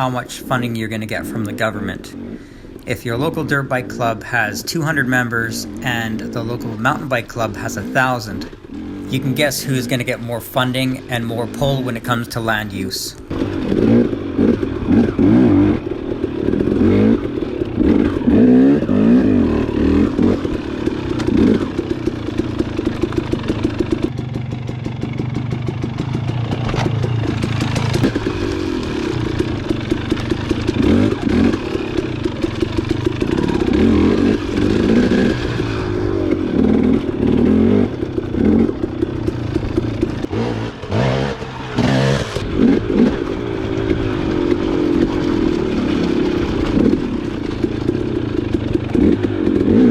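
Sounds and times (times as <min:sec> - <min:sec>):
dirt bike engine revving: 0:00.0 - 0:49.9
bike rattling over rough ground: 0:03.1 - 0:49.9.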